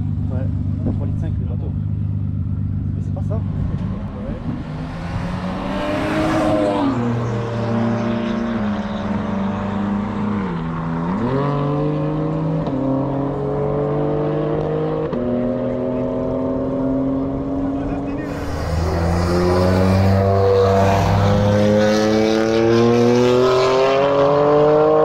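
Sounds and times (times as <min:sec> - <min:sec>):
car engine accelerating hard: 0:00.8 - 0:25.0.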